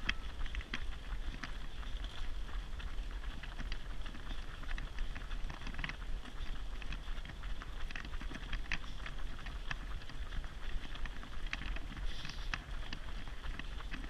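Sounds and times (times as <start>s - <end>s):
running footsteps on asphalt: 0.0s - 14.0s
steady low rumble: 0.0s - 14.0s.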